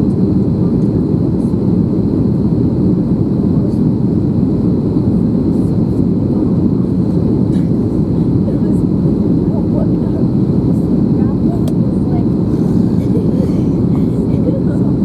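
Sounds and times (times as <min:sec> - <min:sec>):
low rush of engines and airflow: 0:00.0 - 0:15.0.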